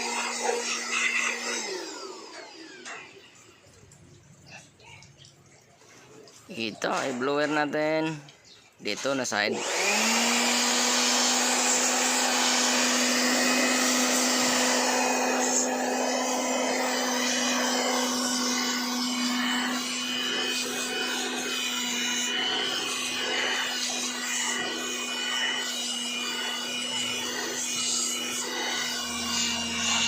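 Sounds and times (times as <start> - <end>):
electric blower running: 0.0 - 3.6, 8.9 - 30.0.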